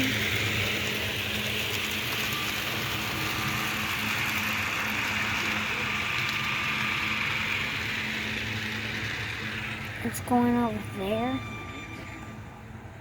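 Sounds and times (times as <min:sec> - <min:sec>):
model train whirring on track: 0:00.0 - 0:13.0.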